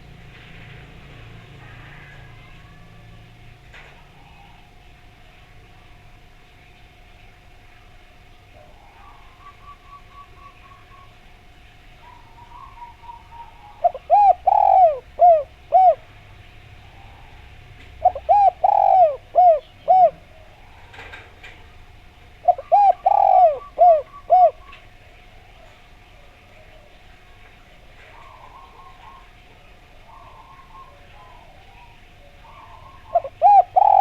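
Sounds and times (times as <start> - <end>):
dove cooing: 1.1 - 5.0, 8.5 - 11.3, 11.9 - 34.0.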